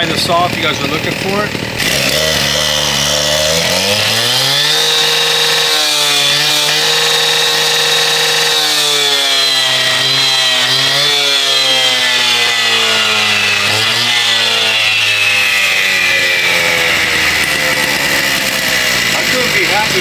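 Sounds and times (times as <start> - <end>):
power cutter engine revving: 0.0 - 20.0.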